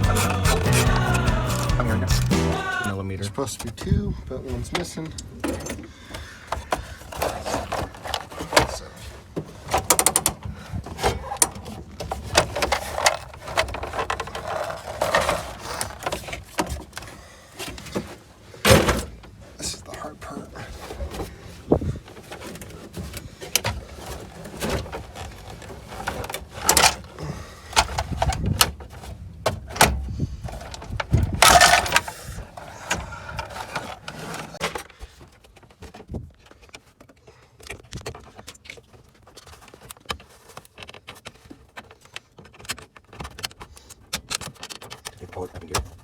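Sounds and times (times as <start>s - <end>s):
plastic console knocking and rattling: 3.5s - 19.4s, 20.7s - 46.0s.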